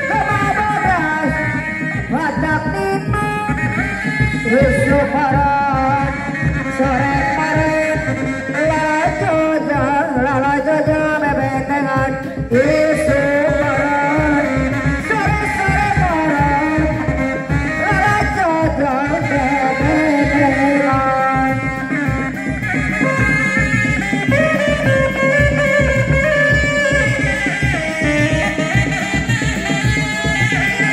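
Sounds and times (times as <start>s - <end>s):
fast drumming: 0.0s - 30.9s.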